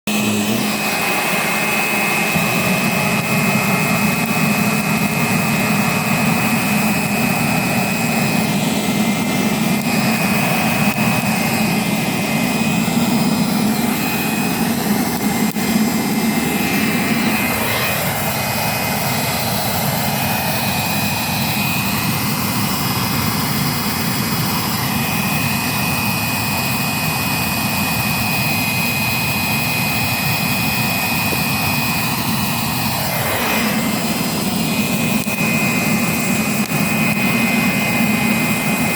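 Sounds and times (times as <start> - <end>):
forge roaring: 0.1 - 26.0, 31.1 - 38.9
thin high whine: 0.1 - 38.9.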